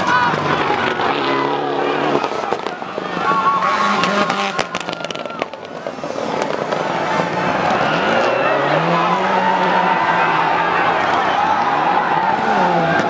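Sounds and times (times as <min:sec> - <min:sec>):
people's voices: 0:00.0 - 0:13.0
rally car engine running: 0:00.0 - 0:13.0.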